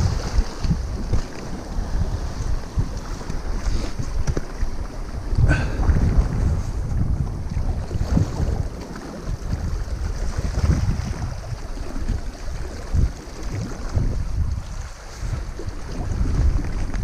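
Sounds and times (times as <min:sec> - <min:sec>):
sea: 0:00.0 - 0:17.0
wind gusting on microphone: 0:00.0 - 0:17.0.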